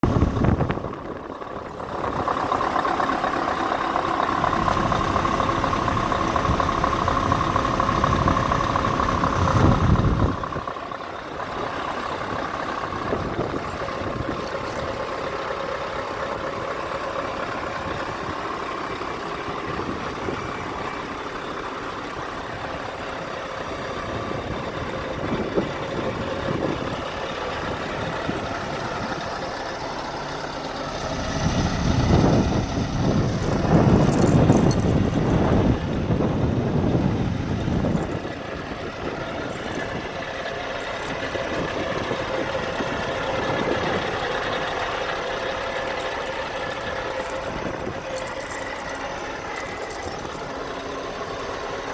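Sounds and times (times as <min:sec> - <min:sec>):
truck diesel engine idling: 0:00.0 - 0:51.9.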